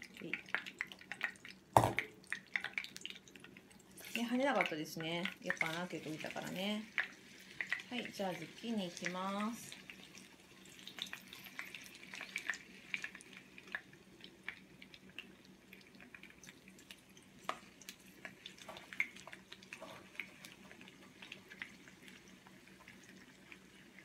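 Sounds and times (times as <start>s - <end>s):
oil crackles and pops: 0.0s - 24.0s
slices frying in oil: 0.0s - 24.0s.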